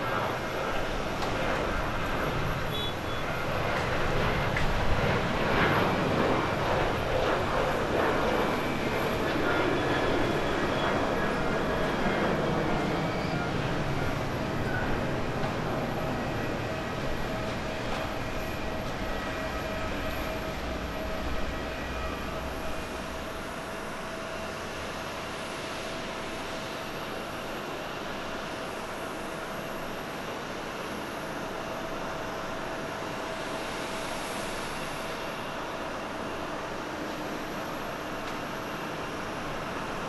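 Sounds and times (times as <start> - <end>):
jet engines rumbling on climb: 0.0 - 40.0
jet rolling on runway: 0.0 - 40.0.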